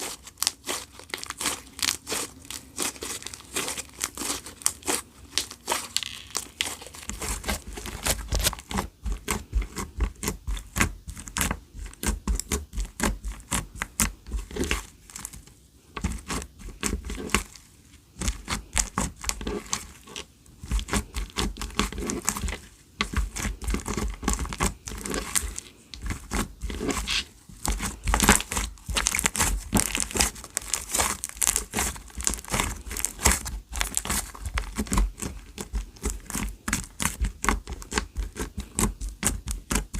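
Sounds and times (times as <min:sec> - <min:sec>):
slime popping and crackling: 0:00.0 - 0:15.4, 0:18.2 - 0:39.9.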